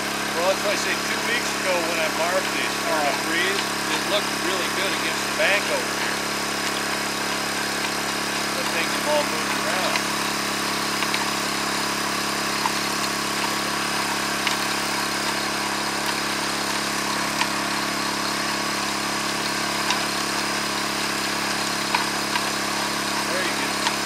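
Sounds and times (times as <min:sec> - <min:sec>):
water pump engine running: 0:00.0 - 0:24.0.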